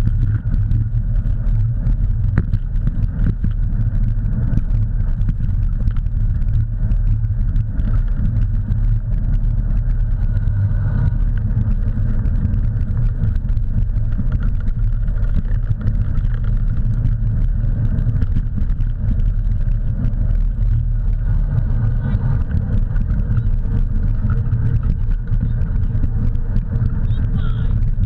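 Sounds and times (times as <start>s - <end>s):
dog rig rumbling on dirt trail: 0.0s - 28.0s
faint clicks and rattles: 0.0s - 28.0s.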